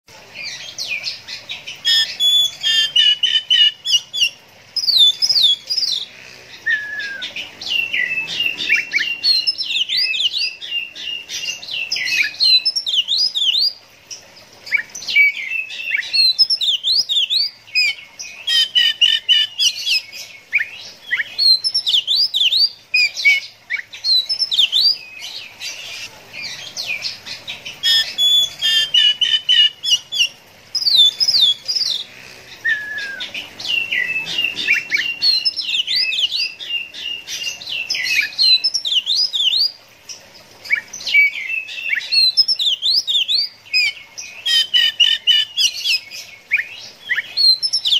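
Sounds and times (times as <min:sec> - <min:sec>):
bird singing whistled song: 0:01.9 - 0:05.9, 0:06.6 - 0:11.2, 0:11.8 - 0:13.8, 0:14.7 - 0:25.3, 0:27.8 - 0:32.0, 0:32.6 - 0:37.2, 0:37.8 - 0:39.8, 0:40.7 - 0:47.9.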